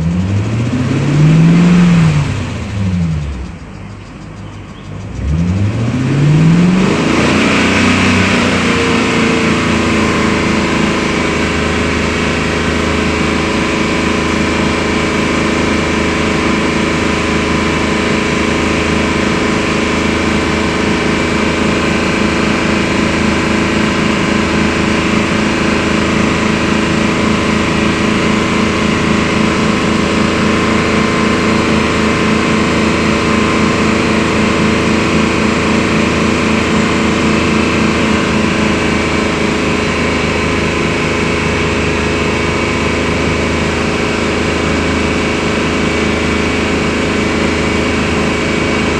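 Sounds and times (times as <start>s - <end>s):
car engine revving and idling: 0.0s - 48.9s.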